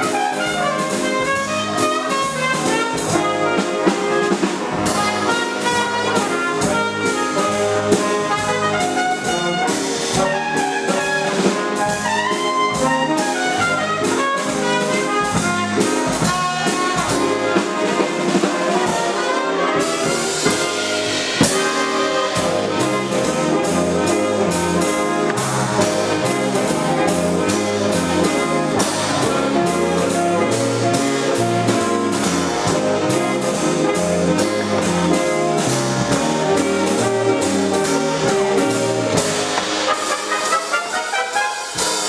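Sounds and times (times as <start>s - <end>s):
drum kit beat: 0.0s - 42.0s
saxophones and brass: 0.0s - 42.0s
stepping bass line: 4.4s - 18.3s, 19.8s - 39.9s.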